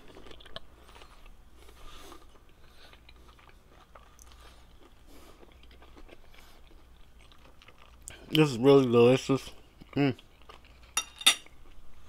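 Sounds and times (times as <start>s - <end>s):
person chewing food: 0.0s - 8.4s, 9.4s - 12.0s.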